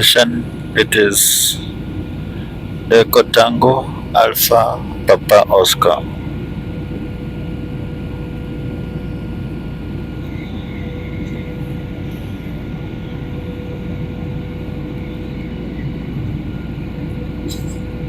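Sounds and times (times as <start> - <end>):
engine and airflow rumble: 0.0 - 18.0.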